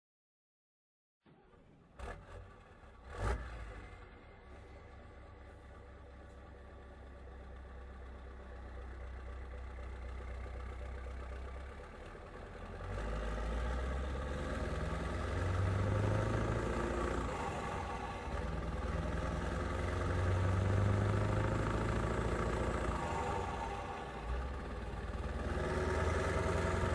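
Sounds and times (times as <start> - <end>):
diesel truck engine running: 1.3 - 26.9.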